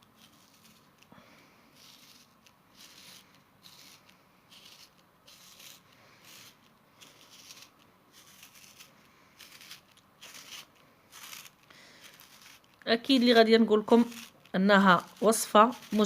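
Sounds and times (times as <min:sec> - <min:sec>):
utensil scraping raw turnip: 0:00.0 - 0:16.0.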